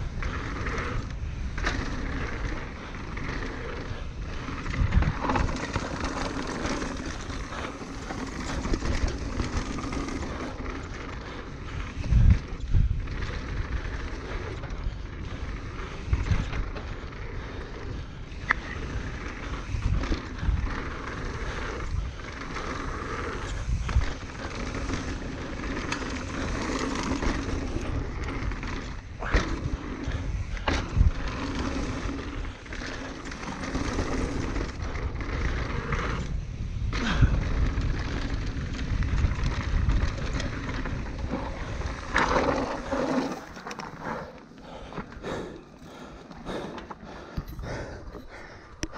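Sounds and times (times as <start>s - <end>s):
bike rattling and knocking: 0.0s - 48.9s
bike tyres rushing on dirt: 0.0s - 48.9s
wind: 0.0s - 48.9s.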